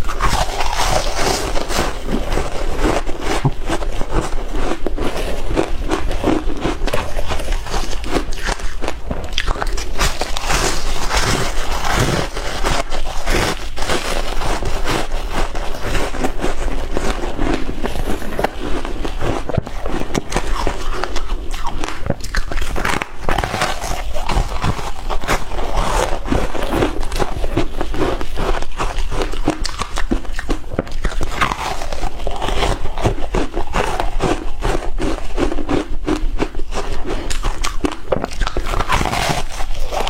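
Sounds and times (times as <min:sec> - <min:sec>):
ice being chewed crunching: 0:00.0 - 0:40.0.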